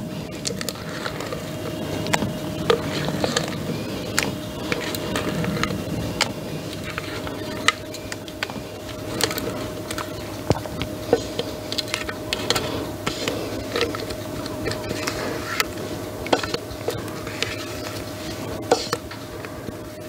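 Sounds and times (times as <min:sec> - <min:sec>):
faint steady hum: 0:00.0 - 0:20.0
spatula scraping metal bowl: 0:00.3 - 0:19.6.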